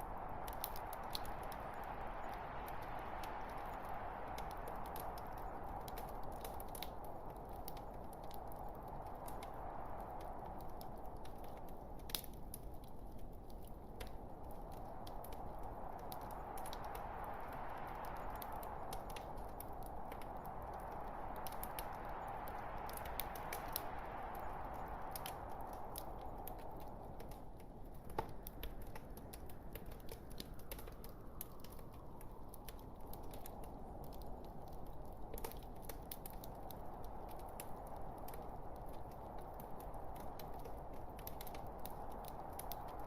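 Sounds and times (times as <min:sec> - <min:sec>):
fire rushing: 0:00.0 - 0:43.0
wood fire crackling and popping: 0:00.0 - 0:43.0.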